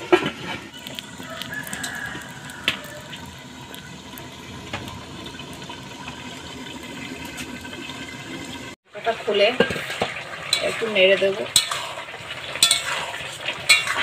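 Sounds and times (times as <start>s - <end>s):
curry simmering and bubbling: 0.0s - 14.0s.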